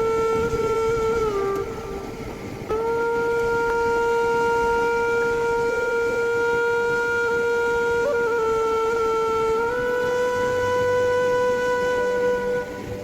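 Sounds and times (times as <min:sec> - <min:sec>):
flute holding long note: 0:00.0 - 0:13.0.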